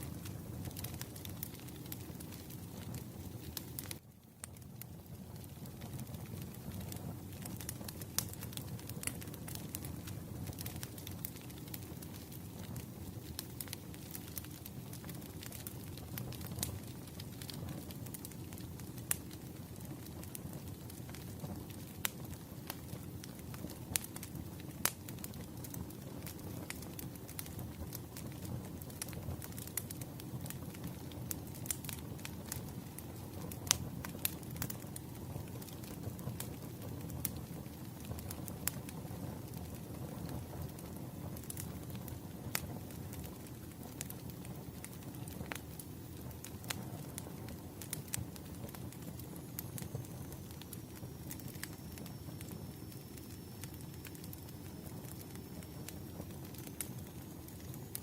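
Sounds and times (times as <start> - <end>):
low fire rumble: 0.0 - 58.0
wood fire crackling and popping: 0.0 - 58.0.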